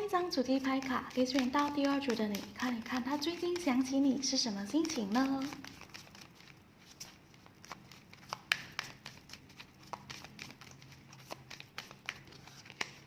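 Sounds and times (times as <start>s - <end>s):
cards being shuffled: 0.2s - 4.0s, 4.6s - 13.0s.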